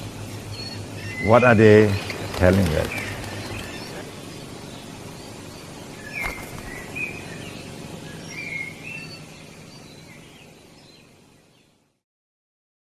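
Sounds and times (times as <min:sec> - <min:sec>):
birds chirping: 0:00.0 - 0:12.0
steady outdoor hiss: 0:00.0 - 0:12.0.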